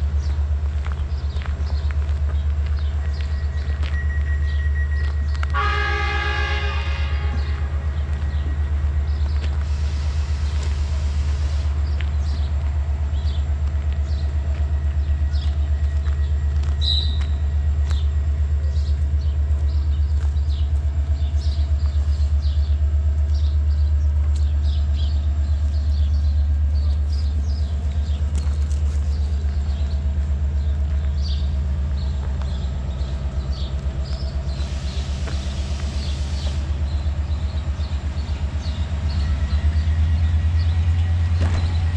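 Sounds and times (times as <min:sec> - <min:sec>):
train rumbling: 0:00.0 - 0:41.9.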